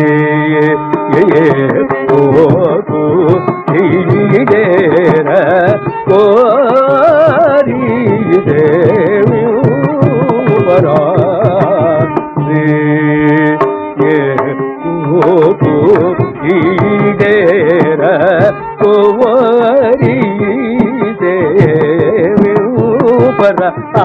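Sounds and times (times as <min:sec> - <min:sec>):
man singing classical melody: 0:00.0 - 0:24.0.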